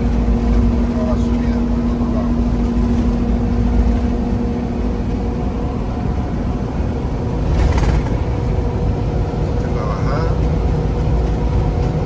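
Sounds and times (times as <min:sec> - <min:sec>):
truck diesel engine drone: 0:00.0 - 0:12.0.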